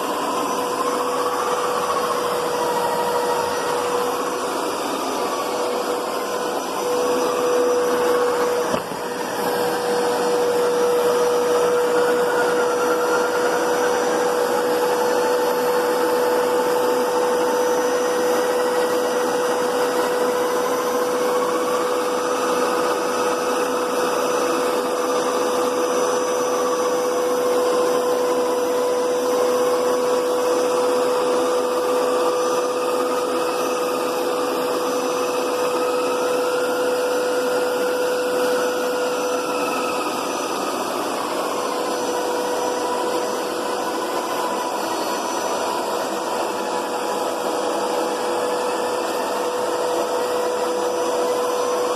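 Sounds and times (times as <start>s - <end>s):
carpet cleaner motor humming: 0.0s - 51.9s.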